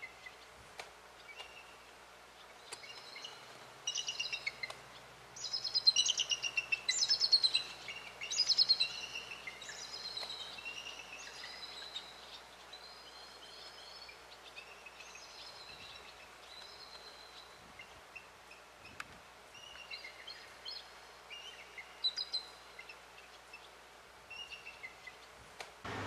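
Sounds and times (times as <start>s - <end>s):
faint outdoor hiss: 0.0s - 26.0s
songbirds chirping: 0.0s - 26.0s.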